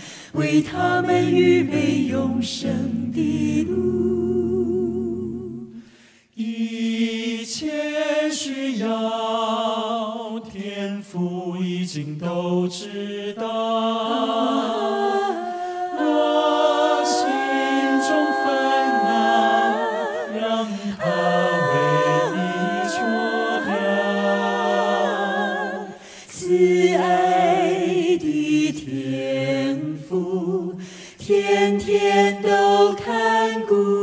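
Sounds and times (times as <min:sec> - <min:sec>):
person singing a hymn: 0:00.2 - 0:05.8, 0:10.5 - 0:34.0.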